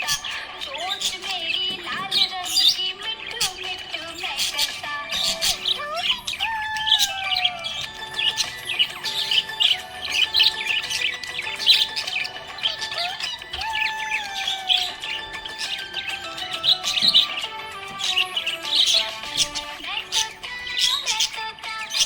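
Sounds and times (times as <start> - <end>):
background music: 0.0 - 22.0
budgerigars chirping: 0.0 - 22.0.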